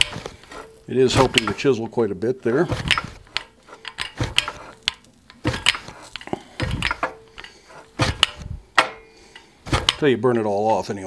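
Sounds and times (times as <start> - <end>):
fly press clanking: 0.0 - 10.2.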